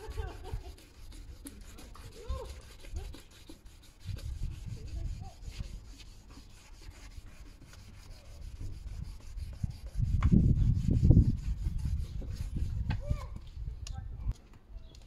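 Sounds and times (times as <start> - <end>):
sandpaper rubbing on plastic: 0.0 - 13.0.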